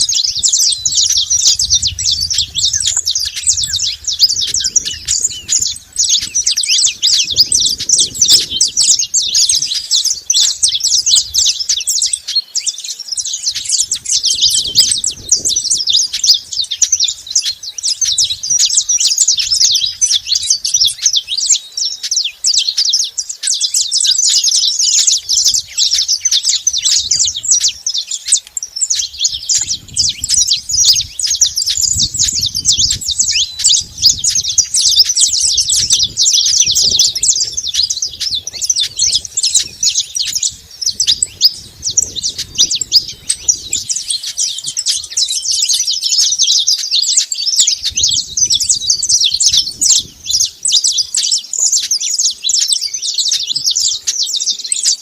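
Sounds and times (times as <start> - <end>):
finches chirping and singing: 0.0 - 55.0.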